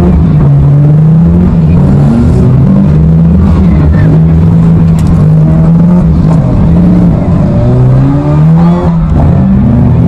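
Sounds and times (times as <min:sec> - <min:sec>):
car engines running loudly: 0:00.0 - 0:10.0
engine revving up: 0:00.0 - 0:10.0.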